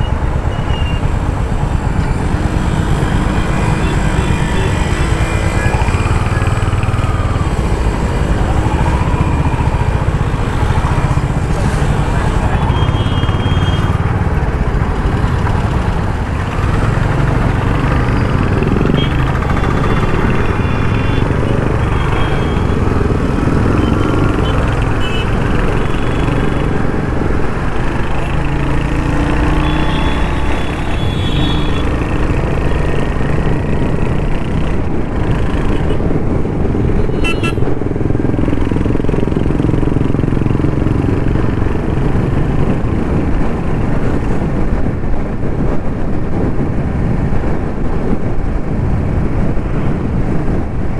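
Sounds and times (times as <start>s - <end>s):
city traffic: 0.0s - 50.9s
motorcycle engine and exhaust: 0.0s - 50.9s.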